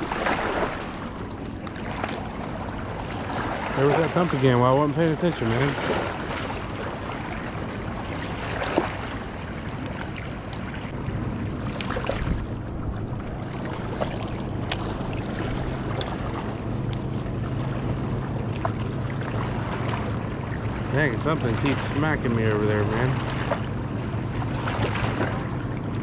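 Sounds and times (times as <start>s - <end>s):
boat engine running: 0.0s - 26.0s
water noise: 0.0s - 26.0s
wind: 0.0s - 26.0s.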